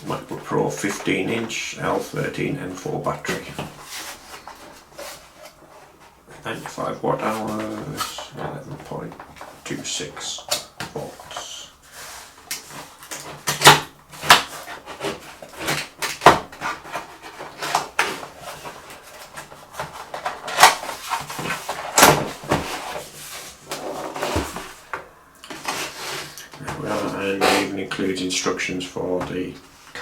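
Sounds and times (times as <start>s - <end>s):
packaging rustling and crinkling: 0.0s - 28.0s.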